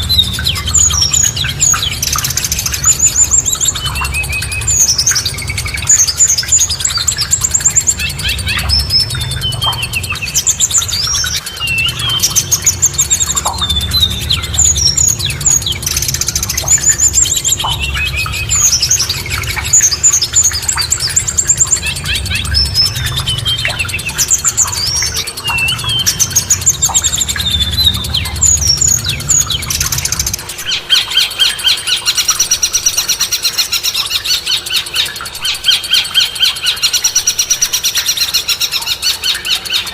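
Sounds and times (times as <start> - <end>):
fast buzzy bird trill: 0.0 - 39.9
songbird chirping and whistling: 0.0 - 39.9.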